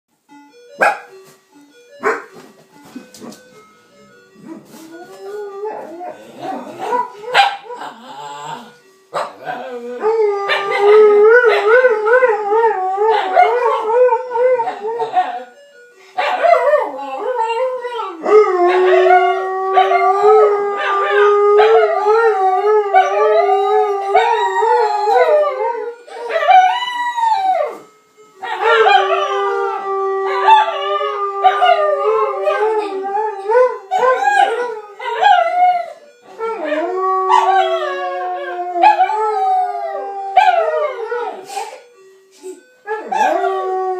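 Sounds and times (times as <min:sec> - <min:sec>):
ice cream van jingle: 0:00.2 - 0:43.9
dogs howling: 0:05.2 - 0:15.6, 0:16.2 - 0:27.8, 0:28.4 - 0:41.5, 0:42.9 - 0:43.9.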